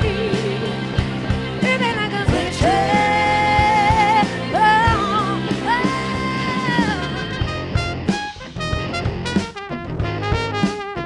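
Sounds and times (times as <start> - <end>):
electric guitar: 0.0 - 10.8
drum kit: 0.0 - 11.0.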